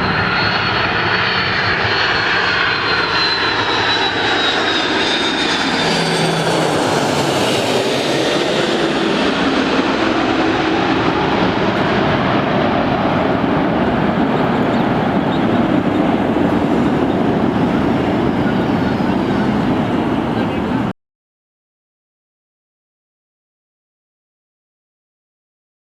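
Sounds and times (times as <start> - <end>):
high jet whine falling in pitch: 0.0 - 20.9
jet engine roar: 0.0 - 20.9.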